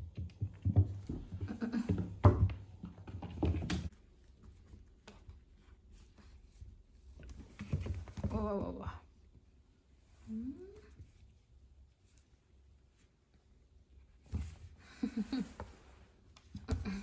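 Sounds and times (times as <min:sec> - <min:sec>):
kittens scuffling: 0:00.0 - 0:10.2, 0:10.8 - 0:17.0.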